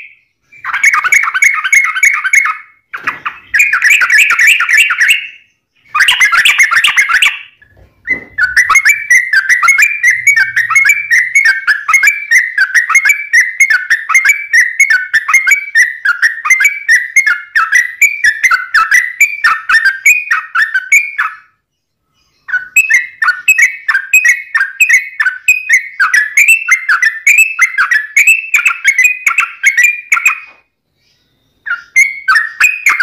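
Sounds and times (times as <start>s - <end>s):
bird chattering: 0.0s - 21.5s, 22.2s - 30.6s, 31.3s - 33.0s
bird whistled notes: 0.0s - 33.0s.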